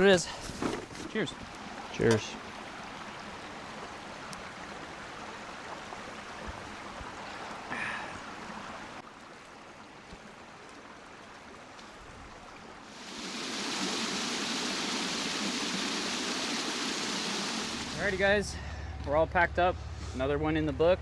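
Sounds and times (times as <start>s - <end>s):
creek water flowing over rocks: 0.0s - 18.4s.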